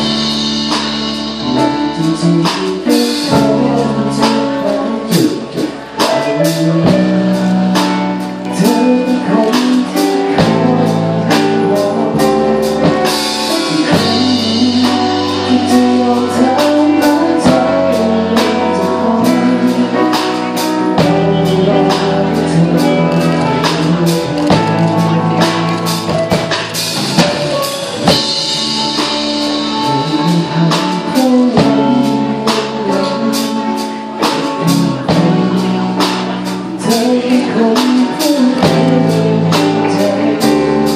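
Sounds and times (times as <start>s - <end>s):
drum kit beat: 0.0s - 40.9s
electric guitars: 0.0s - 40.9s
man singing: 0.0s - 40.9s.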